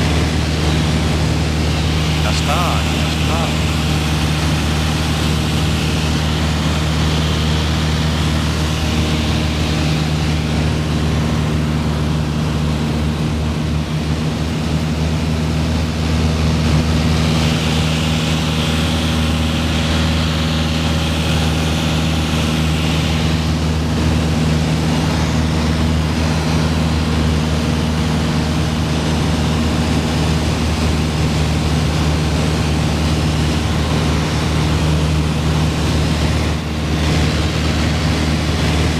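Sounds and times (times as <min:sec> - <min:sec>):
airplane engine in flight: 0:00.0 - 0:38.9.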